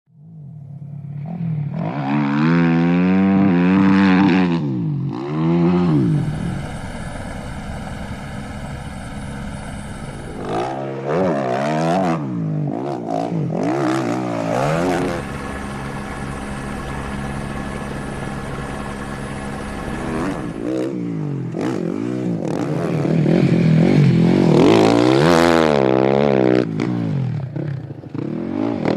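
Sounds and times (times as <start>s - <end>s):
motorcycle engine revving: 0.2s - 28.9s.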